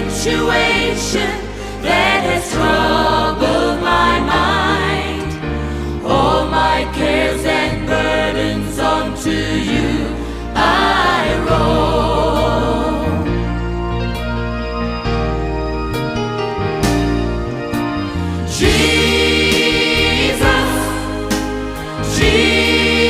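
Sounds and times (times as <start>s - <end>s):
worship song with keyboard and bass: 0.0s - 23.0s.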